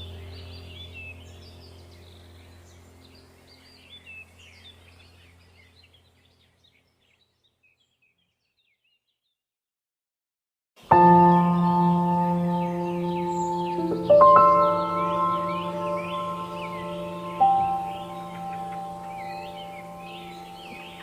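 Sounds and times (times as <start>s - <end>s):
low steady hum: 0.0s - 7.3s, 10.8s - 21.0s
small birds chirping: 0.0s - 9.4s, 10.8s - 21.0s.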